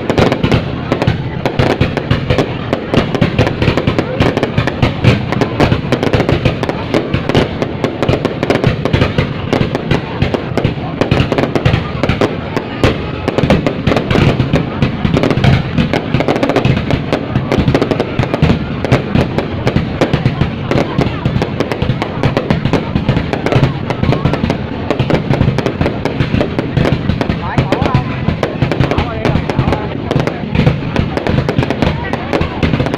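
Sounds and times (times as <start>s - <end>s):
fireworks bangs and crackles: 0.0s - 32.9s
fireworks rumble: 0.0s - 32.9s.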